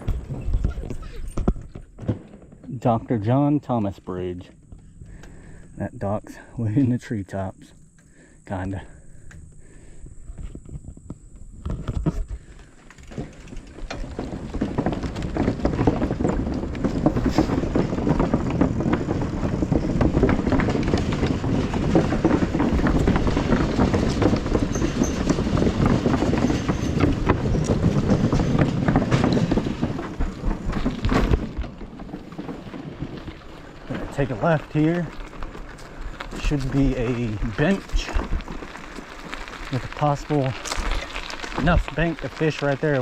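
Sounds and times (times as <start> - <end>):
bicycle rattling on rough trail: 0.0 - 43.0.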